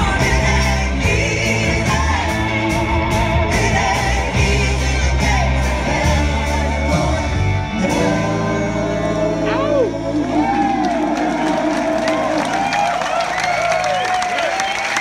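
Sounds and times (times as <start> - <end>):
live band playing: 0.0 - 12.9.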